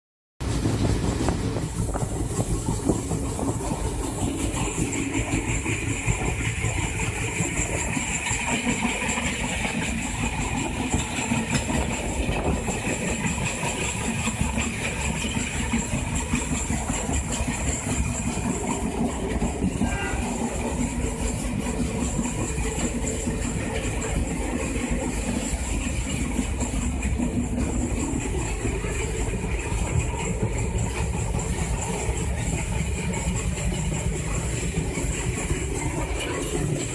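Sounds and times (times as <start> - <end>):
train wheels rumbling on rail: 0.4 - 36.9.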